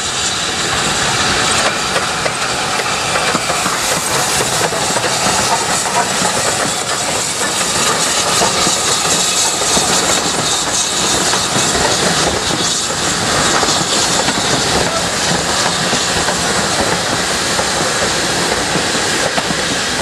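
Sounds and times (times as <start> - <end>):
steam hissing: 0.0 - 20.0
train wheels rumbling and clattering: 0.0 - 20.0.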